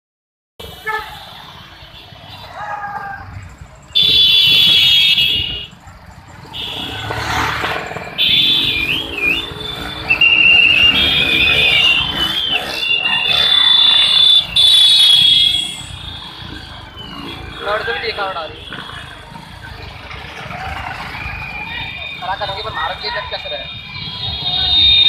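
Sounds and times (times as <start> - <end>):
motorcycle engines rumbling: 0.6 - 25.0.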